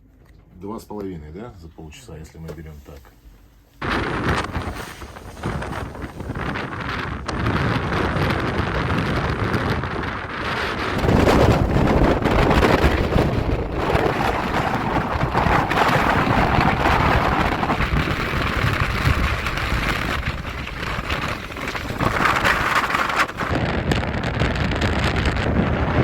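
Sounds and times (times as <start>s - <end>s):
wind buffeting microphone: 3.8s - 26.0s.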